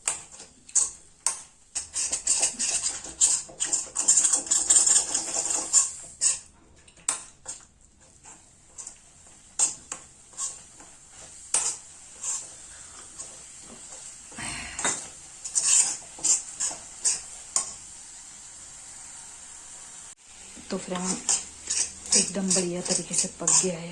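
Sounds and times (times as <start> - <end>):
spoon scraping a pan: 0.0 - 18.2, 20.3 - 23.9
paste sizzling: 0.0 - 23.9.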